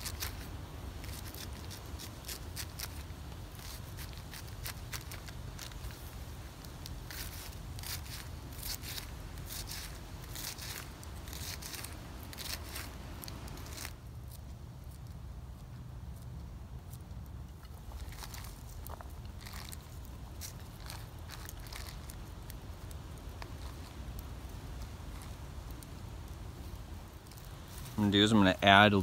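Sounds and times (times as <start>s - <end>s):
low steady rumble: 0.0s - 29.0s
soft handling sounds: 0.0s - 29.0s.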